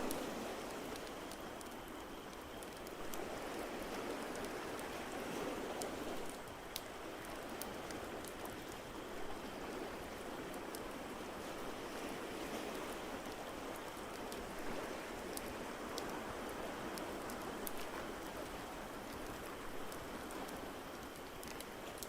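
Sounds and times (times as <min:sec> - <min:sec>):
rushing water: 0:00.0 - 0:22.0
wood fire crackling: 0:00.0 - 0:22.0.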